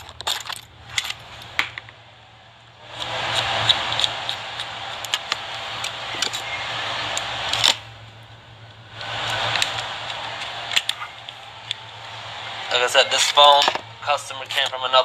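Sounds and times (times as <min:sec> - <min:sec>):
steady hiss: 0:00.7 - 0:15.0.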